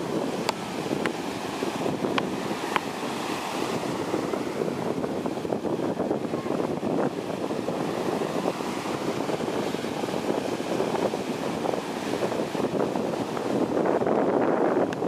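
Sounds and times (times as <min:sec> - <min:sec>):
small waves washing on beach: 0:00.0 - 0:15.0.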